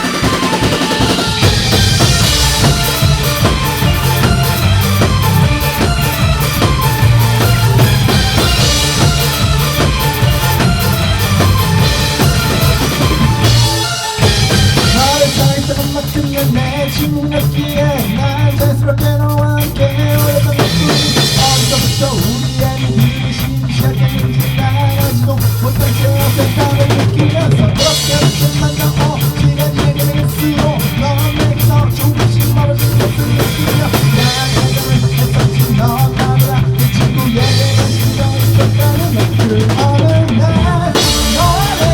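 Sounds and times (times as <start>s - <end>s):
bass line: 0.0s - 41.9s
drum kit beating: 0.0s - 41.9s
rock band playing: 0.0s - 41.9s.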